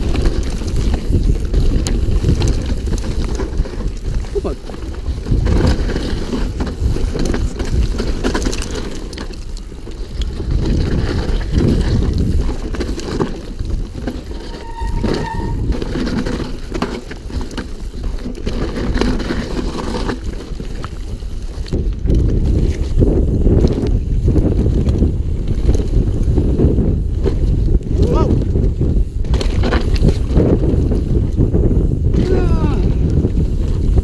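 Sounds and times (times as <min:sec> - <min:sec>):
bicycle rattling over rough ground: 0:00.0 - 0:34.0
wind buffeting microphone: 0:00.0 - 0:34.0.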